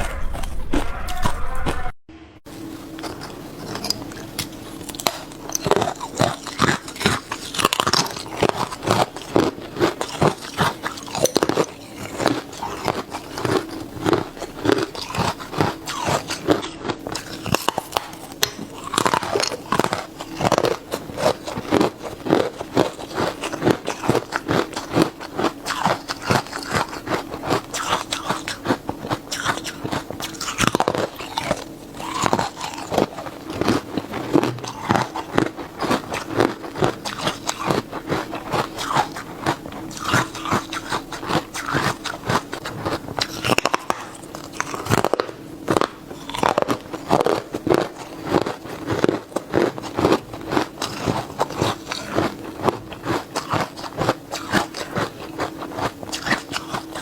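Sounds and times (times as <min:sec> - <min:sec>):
chewing crunchy ice: 0:02.6 - 0:57.0.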